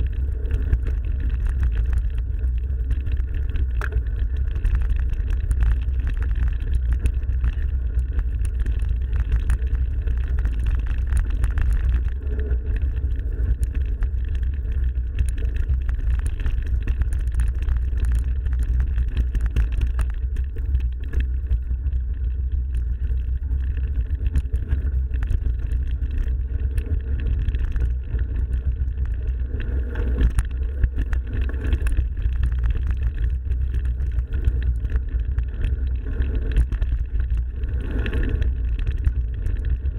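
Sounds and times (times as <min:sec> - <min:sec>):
bike tyre and drivetrain noise: 0:00.0 - 0:39.9
low wind rumble: 0:00.0 - 0:39.9.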